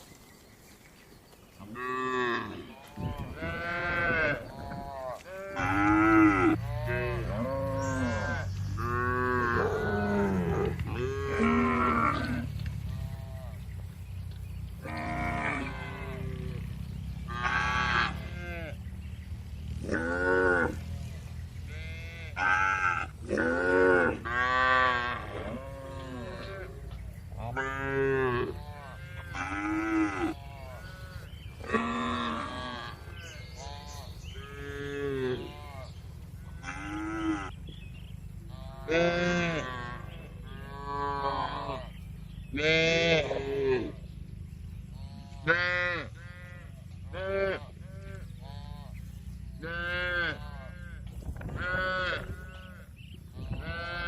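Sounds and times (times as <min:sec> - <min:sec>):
cattle mooing: 0:01.6 - 0:13.8, 0:14.7 - 0:18.9, 0:19.8 - 0:37.8, 0:38.4 - 0:44.1, 0:44.9 - 0:54.0
steady low hum: 0:03.2 - 0:54.0.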